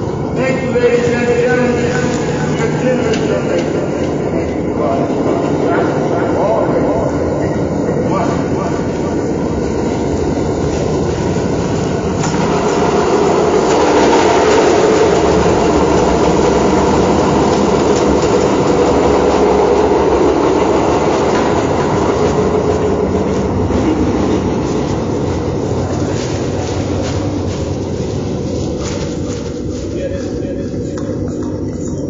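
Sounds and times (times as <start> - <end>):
train rattling: 0.0 - 32.0.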